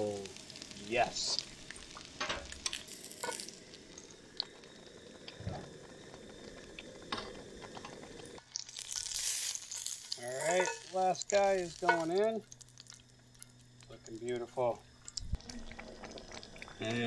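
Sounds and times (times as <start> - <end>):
meatballs sizzling in oil: 0.0 - 17.0.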